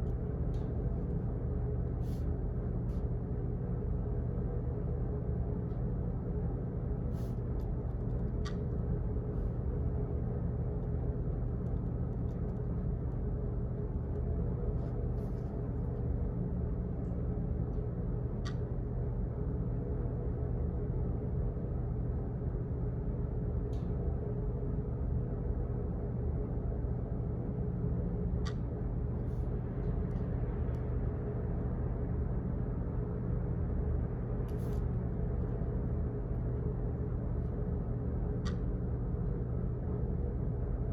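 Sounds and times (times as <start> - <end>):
low ventilation hum: 0.0 - 40.9.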